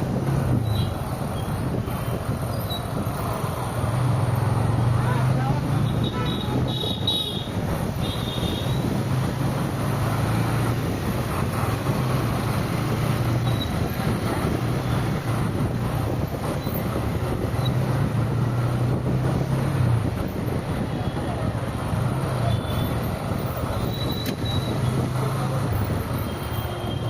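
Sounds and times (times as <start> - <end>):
road and traffic noise: 0.0 - 27.0.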